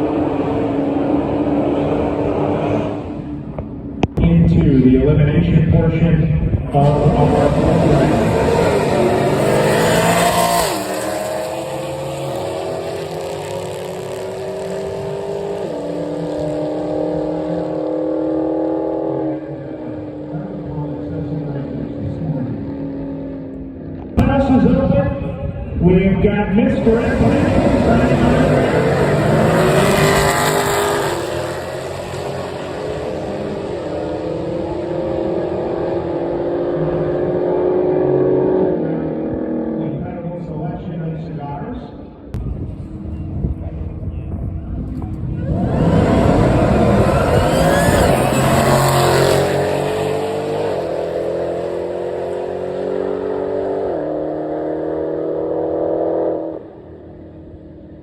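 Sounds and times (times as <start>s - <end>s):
race car engine accelerating: 0.0s - 24.7s, 26.5s - 40.1s, 42.8s - 58.0s.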